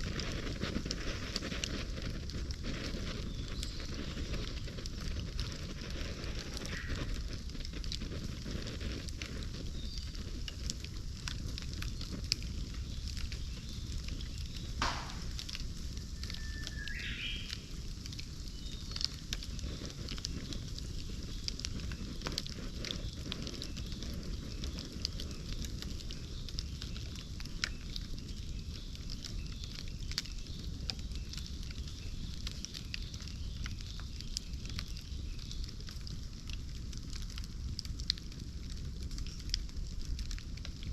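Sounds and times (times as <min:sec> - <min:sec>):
bonfire crackling and popping: 0:00.0 - 0:40.9
low rush of flame: 0:00.0 - 0:40.9.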